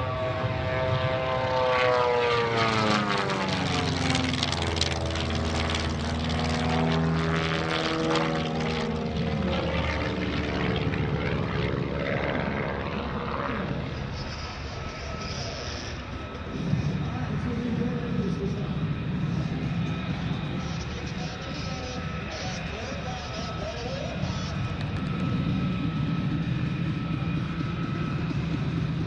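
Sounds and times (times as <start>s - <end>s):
propeller plane flying overhead: 0.0s - 29.0s.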